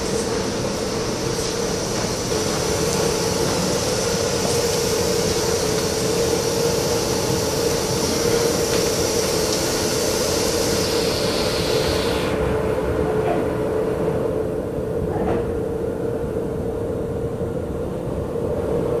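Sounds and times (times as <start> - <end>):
electric train humming: 0.0 - 19.0.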